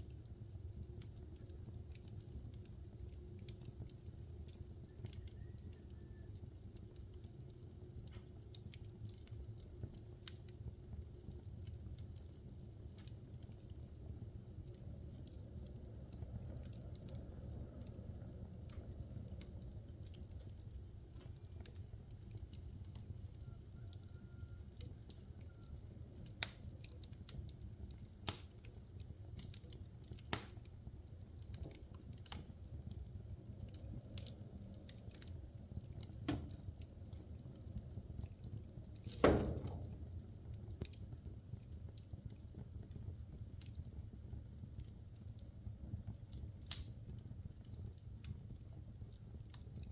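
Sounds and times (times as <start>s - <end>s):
fire rumbling: 0.0s - 49.9s
wood crackling and popping: 0.0s - 49.9s.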